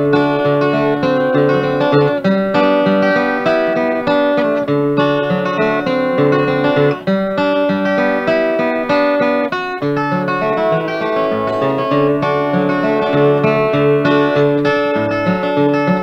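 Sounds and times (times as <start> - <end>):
acoustic guitar blues picking: 0.0 - 16.0.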